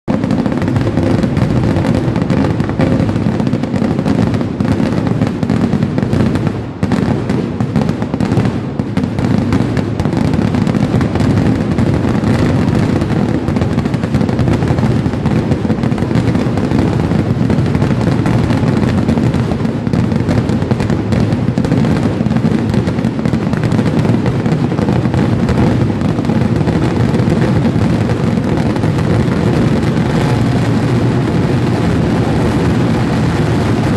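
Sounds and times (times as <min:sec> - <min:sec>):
fireworks barrage bursting: 0:00.0 - 0:33.9.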